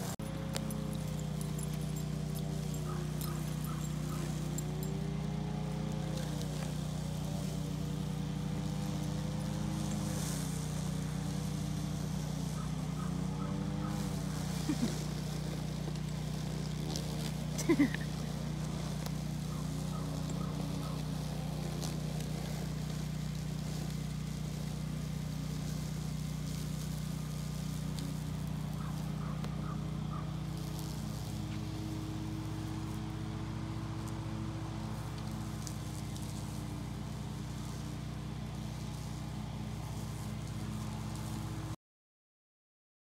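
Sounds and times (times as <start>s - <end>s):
electric lawn mower running: 0.0s - 41.8s.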